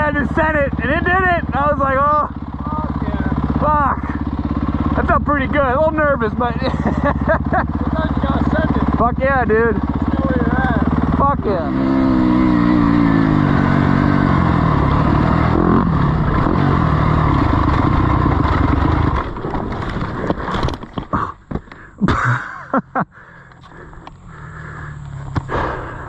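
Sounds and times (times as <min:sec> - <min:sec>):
off-road engine revving: 0:00.0 - 0:21.3, 0:22.0 - 0:26.0
quieter engine in background: 0:00.0 - 0:26.0.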